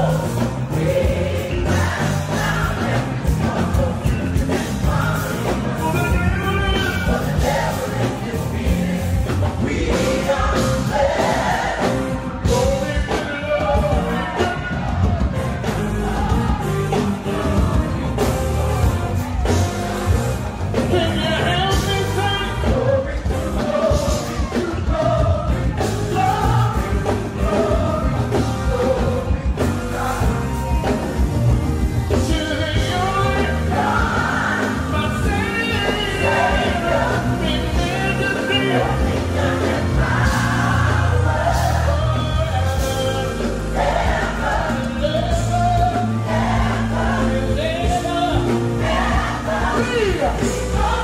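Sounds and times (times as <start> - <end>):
gospel band playing: 0.0 - 51.0.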